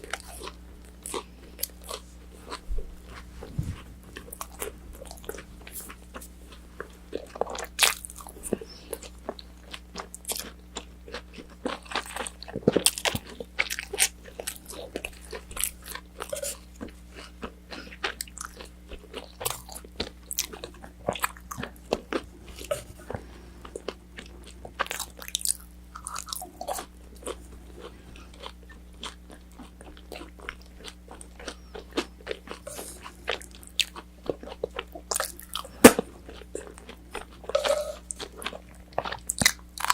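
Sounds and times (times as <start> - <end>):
chewing crispy food: 0.0 - 39.9.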